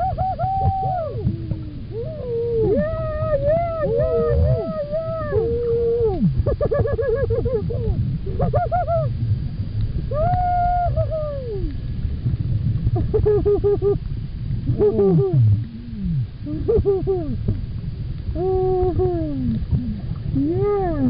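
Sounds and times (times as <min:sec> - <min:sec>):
low water noise: 0:00.0 - 0:21.0
whale song underwater: 0:00.0 - 0:21.0.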